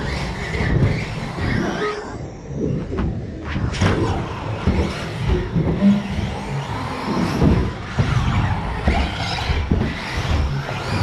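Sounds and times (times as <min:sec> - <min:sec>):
model car motors racing: 0:00.0 - 0:02.6, 0:03.6 - 0:11.0.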